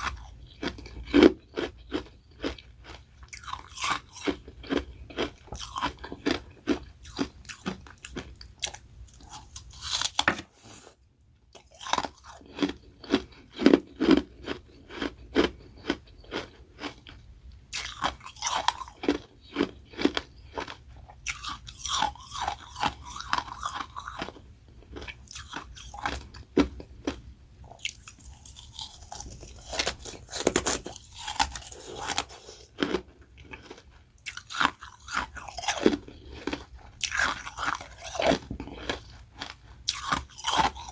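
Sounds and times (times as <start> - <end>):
biting and chewing ice: 0.0 - 10.5, 11.5 - 40.9.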